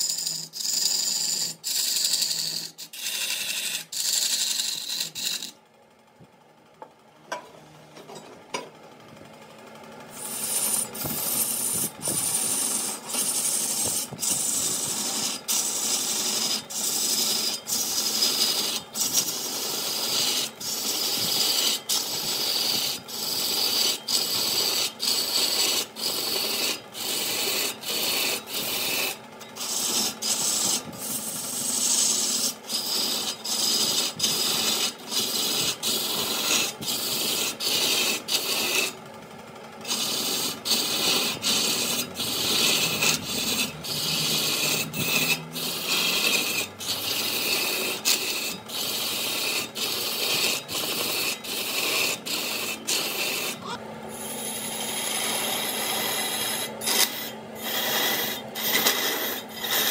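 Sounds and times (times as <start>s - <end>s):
wood scraping on a lathe: 0.0s - 5.6s, 9.7s - 59.9s.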